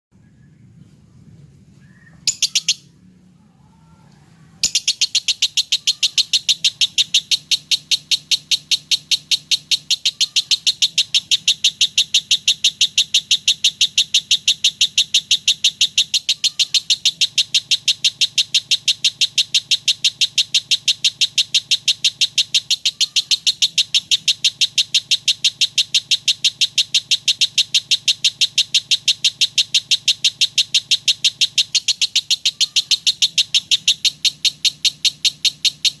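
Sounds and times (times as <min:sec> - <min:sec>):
lovebird chattering trill: 0:01.9 - 0:02.9, 0:04.6 - 0:36.0.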